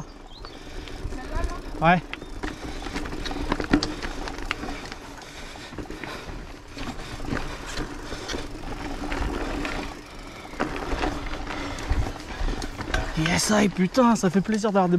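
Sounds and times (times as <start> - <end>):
bike tyres on gravel trail: 0.0 - 14.9.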